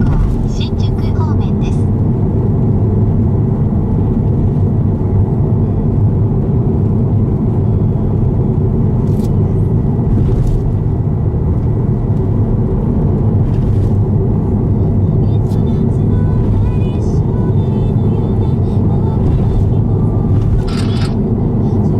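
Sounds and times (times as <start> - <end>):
car road and engine rumble: 0.0 - 21.9.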